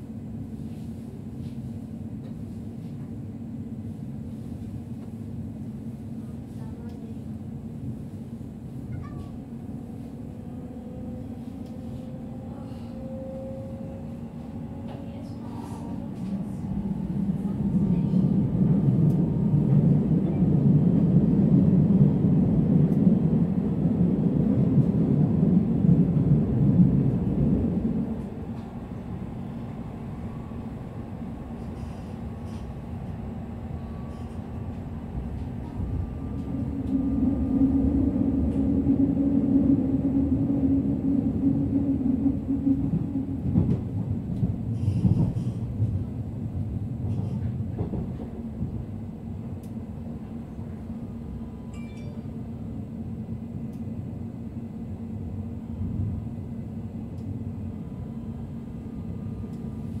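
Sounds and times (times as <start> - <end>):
train wheels rumbling: 5.9 - 54.2.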